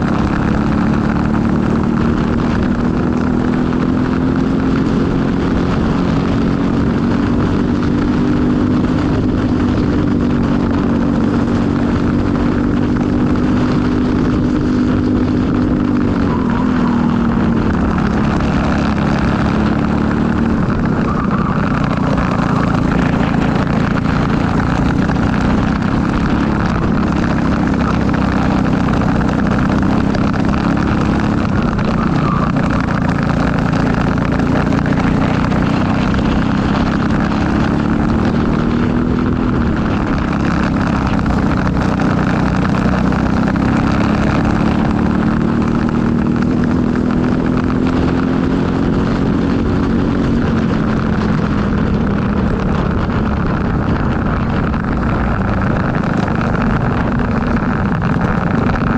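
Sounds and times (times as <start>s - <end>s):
kart engine racing: 0.0s - 58.9s.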